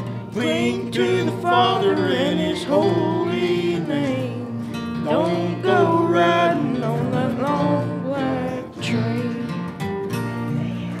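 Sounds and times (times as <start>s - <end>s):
acoustic guitar strummed: 0.0s - 11.0s
person singing: 0.3s - 9.8s, 10.5s - 11.0s.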